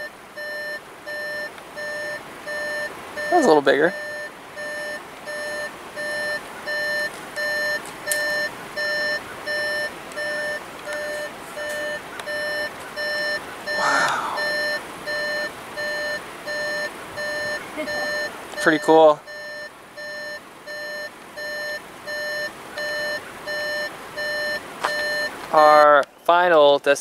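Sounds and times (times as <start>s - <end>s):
car warning chime beeping: 0.0s - 25.4s.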